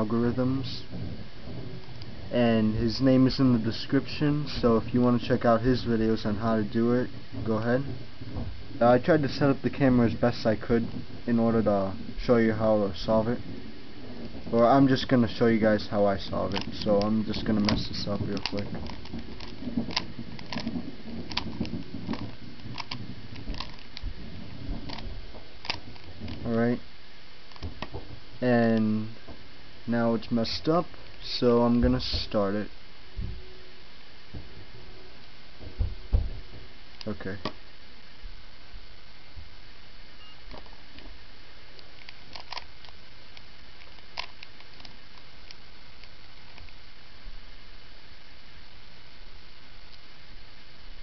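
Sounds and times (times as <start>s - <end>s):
steady background hiss: 0.0s - 51.0s.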